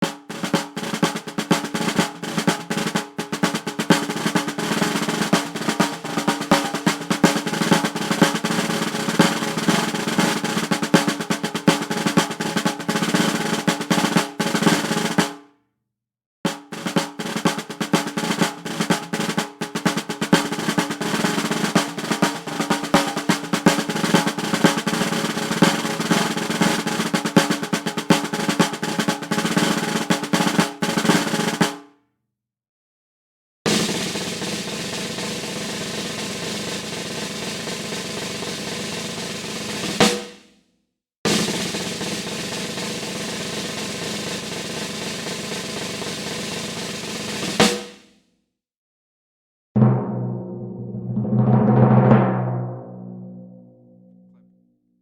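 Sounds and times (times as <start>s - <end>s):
drum roll: 0.0s - 15.4s, 16.5s - 31.8s, 33.7s - 40.4s, 41.3s - 48.0s, 49.8s - 54.3s.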